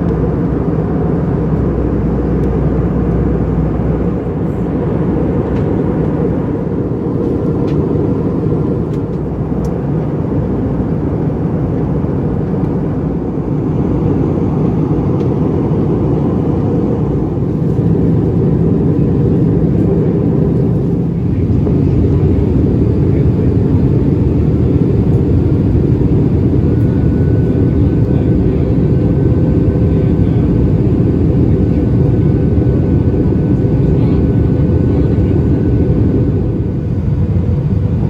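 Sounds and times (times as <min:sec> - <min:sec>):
aircraft cabin noise: 0:00.0 - 0:38.0.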